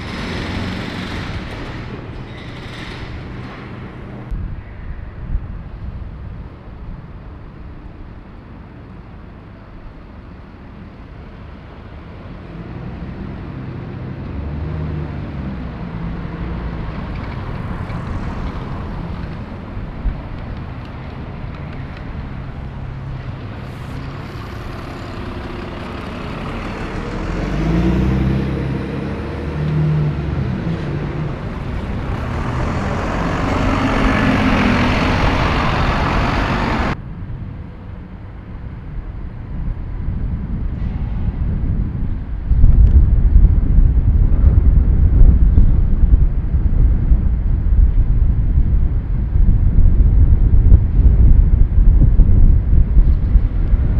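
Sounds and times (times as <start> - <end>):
buses and traffic passing: 0.0 - 53.9.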